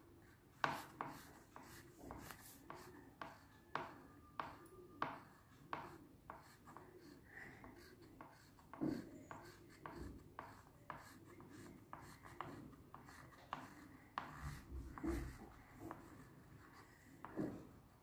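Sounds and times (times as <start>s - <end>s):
pen scratching on paper: 0.2s - 18.0s.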